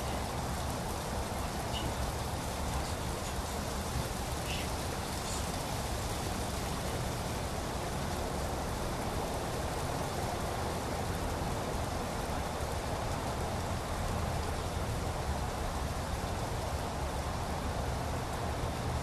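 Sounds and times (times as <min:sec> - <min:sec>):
light rain falling: 0:00.0 - 0:19.0.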